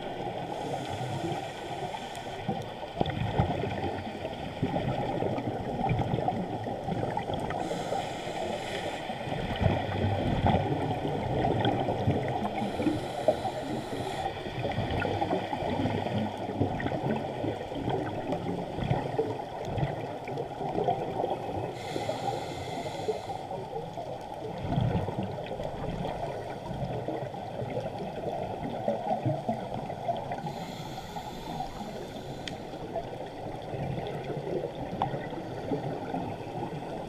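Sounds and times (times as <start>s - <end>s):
muffled underwater crackling hiss: 0.0s - 37.0s.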